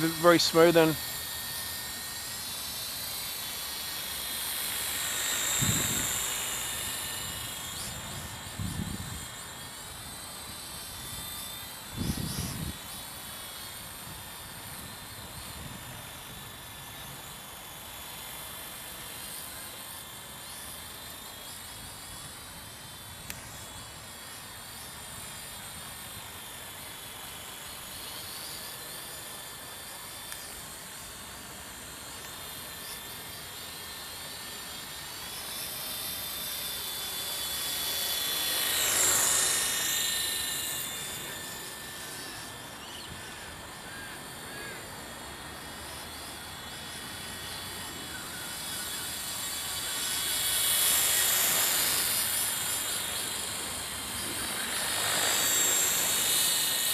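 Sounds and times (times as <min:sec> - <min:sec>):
rc helicopter rotor buzz: 0:00.0 - 0:56.9.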